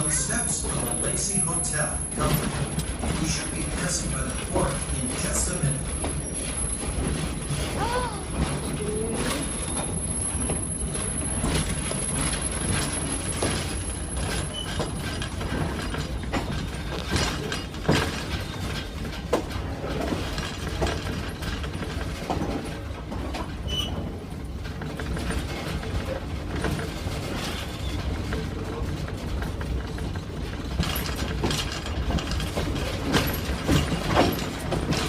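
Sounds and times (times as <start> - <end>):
train rumbling on track: 0.0 - 35.0
wheels clacking and rattling: 0.0 - 35.0.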